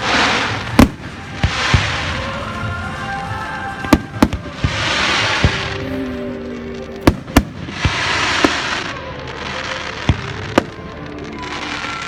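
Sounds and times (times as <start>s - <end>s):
crackling hiss: 0.0s - 12.0s.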